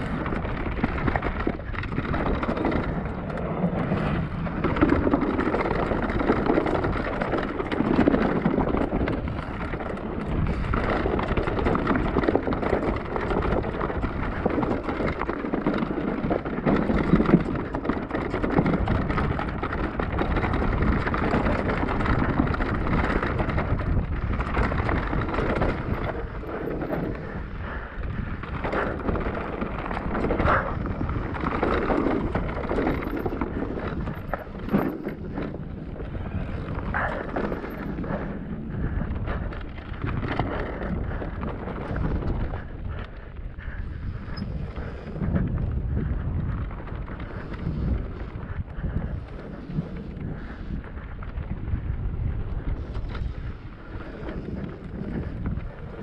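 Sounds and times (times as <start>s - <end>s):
bike knocks and rattles: 0.0s - 50.6s
bike tyre noise on trail: 0.0s - 56.0s
wind buffeting microphone: 0.0s - 56.0s.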